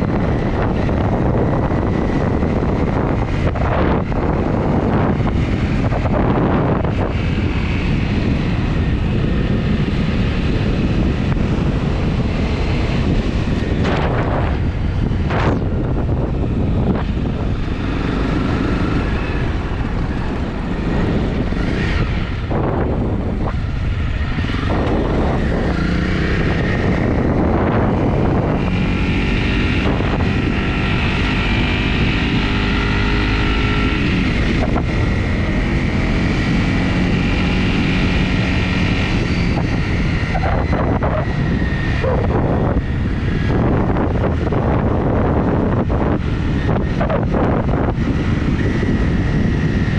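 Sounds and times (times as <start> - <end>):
motorcycle engine running: 0.0 - 49.9
wind rumble on microphone: 0.0 - 49.9.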